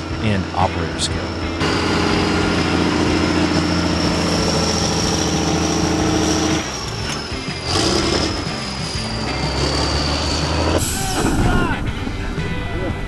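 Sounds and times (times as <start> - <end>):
truck engine running: 0.0 - 10.9
background music: 0.0 - 13.0.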